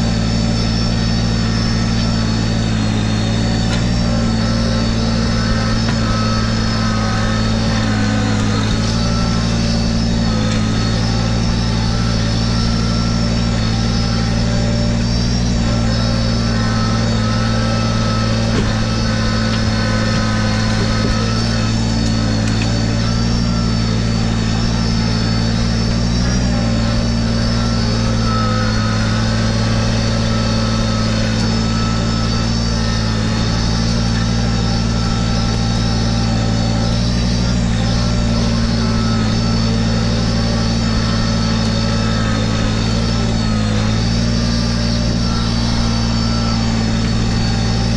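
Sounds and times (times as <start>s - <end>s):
high whine: 0.0s - 47.9s
tractor diesel engine running: 0.0s - 47.9s.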